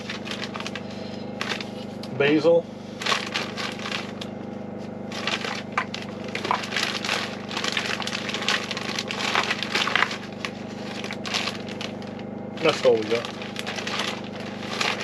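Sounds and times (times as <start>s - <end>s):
dried herbs crinkly rustling: 0.0s - 2.0s, 2.9s - 15.0s
steady low hum: 0.0s - 15.0s.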